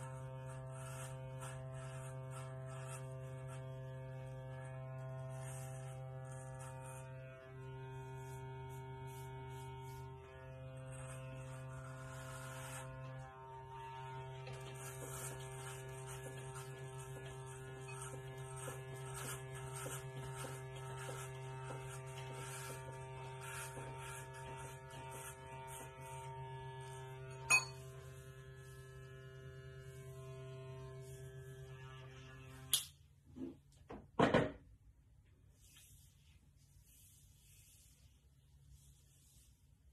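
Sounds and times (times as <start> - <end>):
electric hair clippers buzzing: 0.0 - 33.0.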